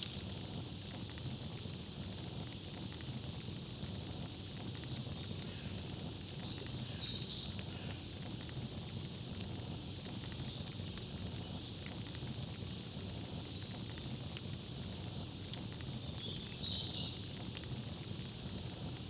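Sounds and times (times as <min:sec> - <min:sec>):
campfire crackling: 0:00.0 - 0:19.0
loud fire pops: 0:00.0 - 0:19.0.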